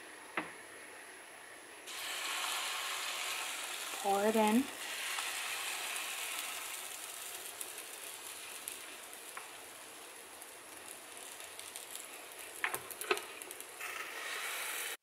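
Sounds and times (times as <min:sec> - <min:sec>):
batter sizzling on hot plates: 0:01.8 - 0:15.0.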